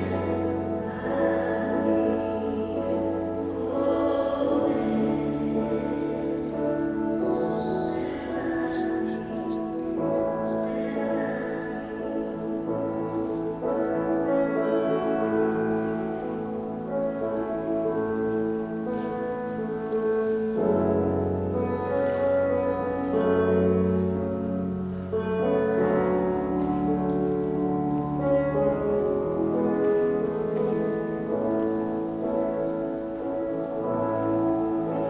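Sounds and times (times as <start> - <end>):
slow instrumental music: 0.0 - 35.0.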